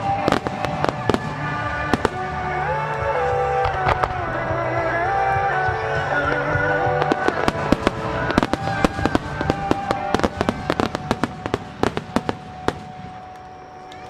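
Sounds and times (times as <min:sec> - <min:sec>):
fireworks bursting and crackling: 0:00.0 - 0:14.0
music with held notes: 0:00.0 - 0:14.0.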